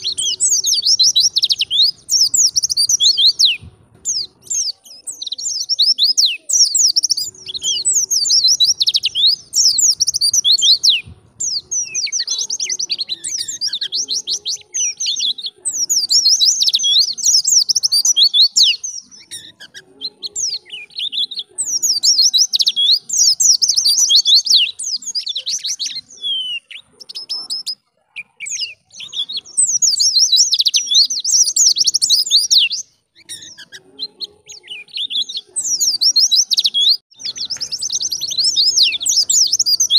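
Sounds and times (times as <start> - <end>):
bird singing fast whistled notes: 0.0 - 39.9.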